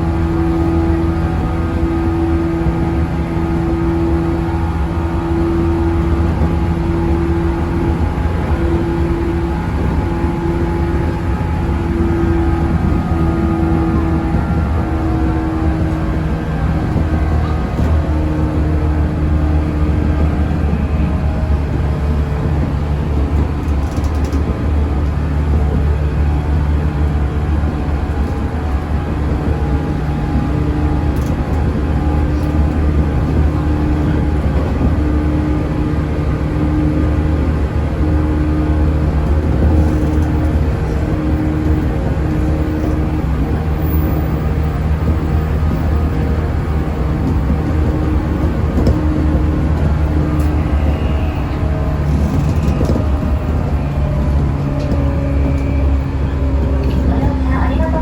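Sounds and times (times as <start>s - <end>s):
low motor hum: 0.0s - 58.0s
train wheels rumbling on rails: 0.0s - 58.0s.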